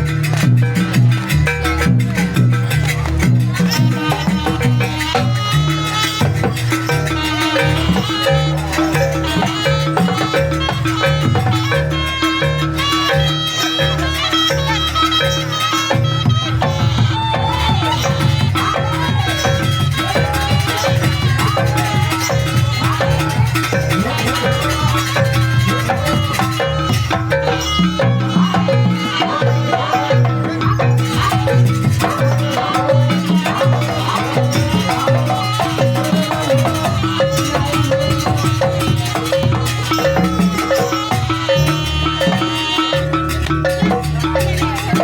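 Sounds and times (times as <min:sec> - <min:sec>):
drums: 0:00.0 - 0:45.0
ringing metal-keyed percussion: 0:00.0 - 0:45.0.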